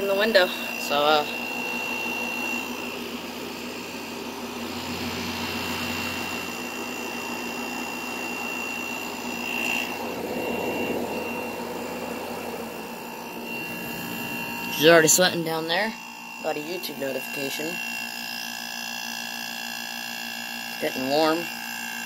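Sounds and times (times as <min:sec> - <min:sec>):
high-pitched whine: 0:00.0 - 0:18.7
air conditioner fan blowing: 0:00.0 - 0:22.0
compressor running: 0:00.0 - 0:22.0.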